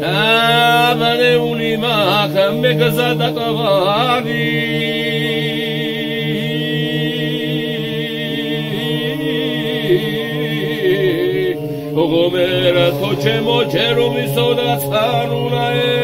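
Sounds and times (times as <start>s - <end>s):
men singing polyphonic folk song: 0.0s - 16.0s.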